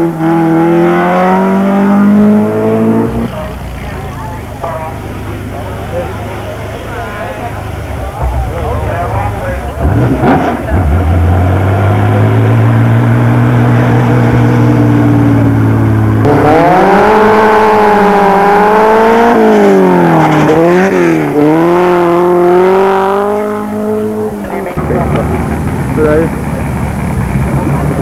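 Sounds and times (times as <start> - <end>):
racing car accelerating: 0.0 - 28.0
racing car engine high revving: 0.0 - 28.0.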